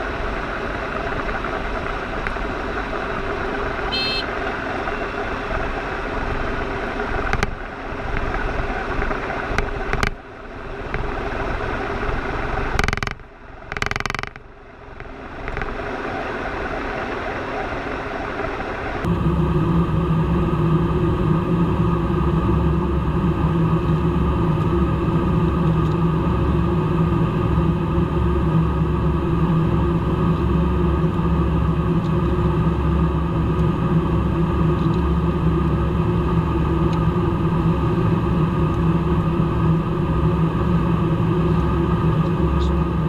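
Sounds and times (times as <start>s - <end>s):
aircraft engine drone: 0.0s - 43.0s.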